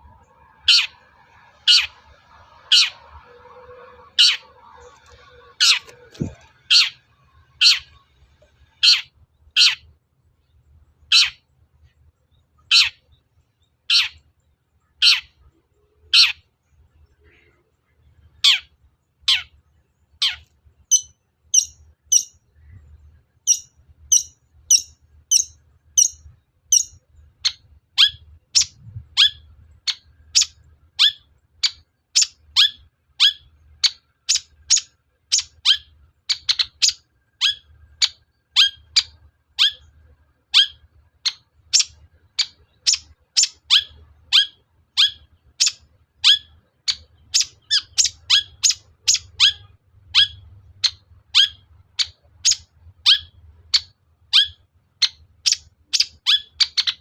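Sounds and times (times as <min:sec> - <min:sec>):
bird sharp downward calls: 0:00.3 - 0:03.3, 0:04.0 - 0:08.0, 0:08.7 - 0:09.9, 0:11.0 - 0:11.5, 0:12.6 - 0:13.2, 0:13.8 - 0:14.3, 0:14.9 - 0:16.5, 0:18.4 - 0:22.8, 0:23.4 - 0:39.9, 0:40.5 - 0:57.0.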